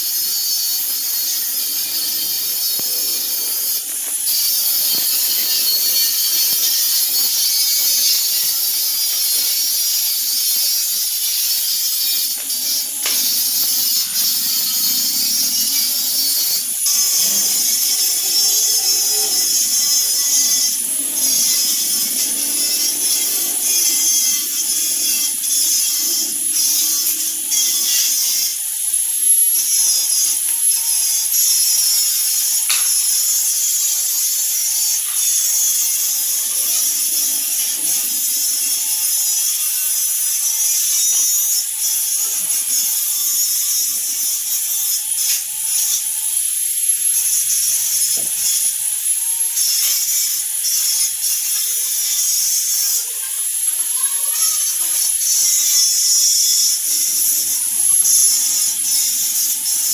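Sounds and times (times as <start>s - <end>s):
high hissing metalworking tool: 0.0s - 59.9s.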